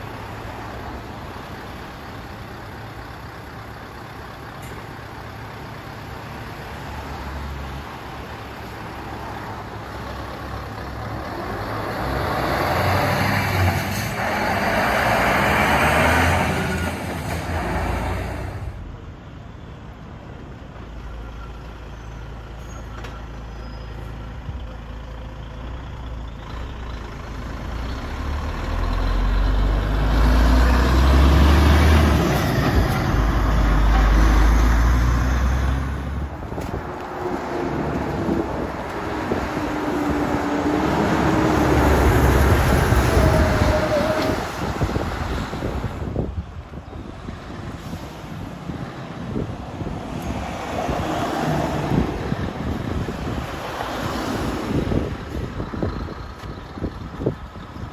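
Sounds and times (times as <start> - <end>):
diesel trucks driving past: 0.0 - 57.9.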